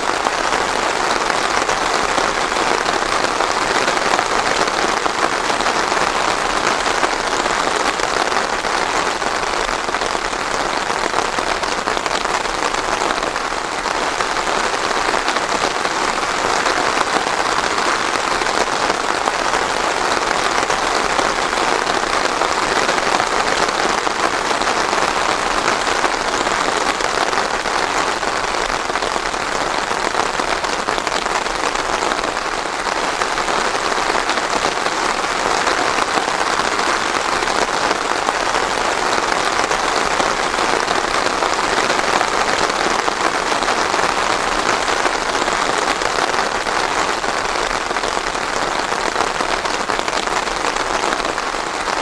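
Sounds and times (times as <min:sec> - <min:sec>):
steady rain patter: 0:00.0 - 0:52.0.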